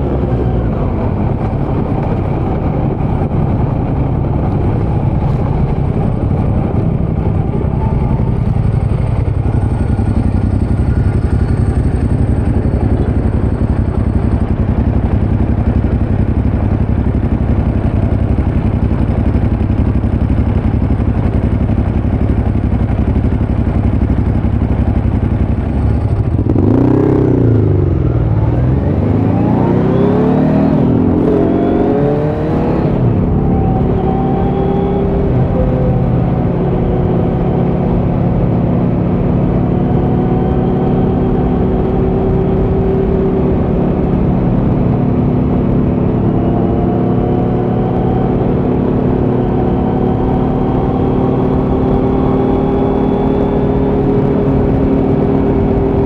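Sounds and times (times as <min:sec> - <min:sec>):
motorcycle engine cruising and revving: 0:00.0 - 0:56.0.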